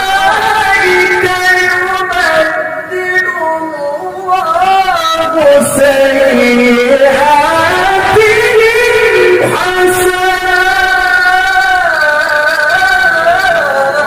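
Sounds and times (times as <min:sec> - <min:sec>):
man reciting in chant: 0:00.0 - 0:14.0.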